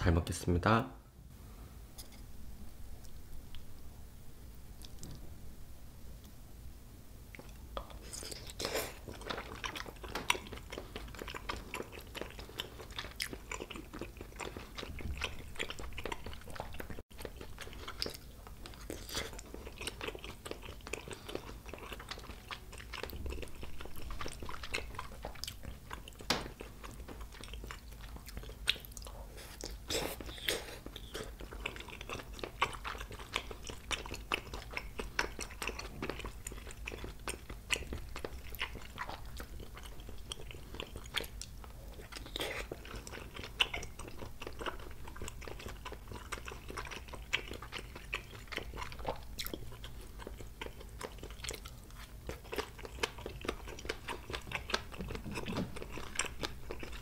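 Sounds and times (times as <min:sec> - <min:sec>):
close chewing with mouth clicks: 0:07.3 - 0:57.0.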